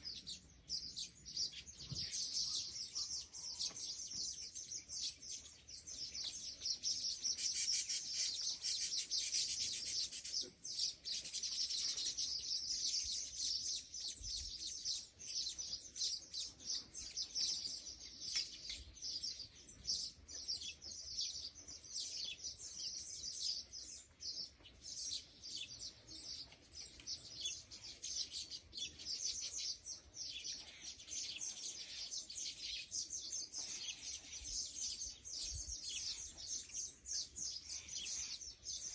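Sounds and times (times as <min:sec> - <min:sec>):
small birds chirping rapidly: 0:00.0 - 0:38.9.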